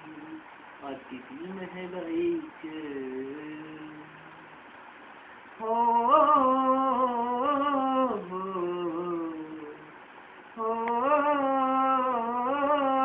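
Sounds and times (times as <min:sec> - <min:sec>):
man singing wordless melody: 0:00.0 - 0:04.6, 0:05.6 - 0:13.0.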